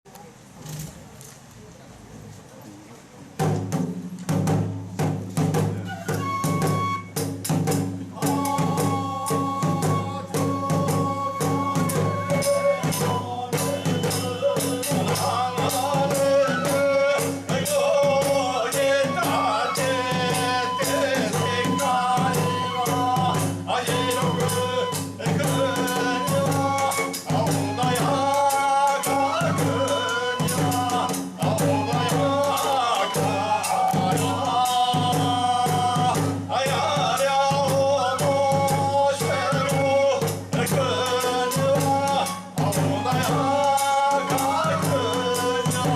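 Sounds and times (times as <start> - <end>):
drum strikes: 3.4 - 45.9
bamboo flute melody: 5.3 - 45.9
hand cymbal strikes: 6.6 - 45.9.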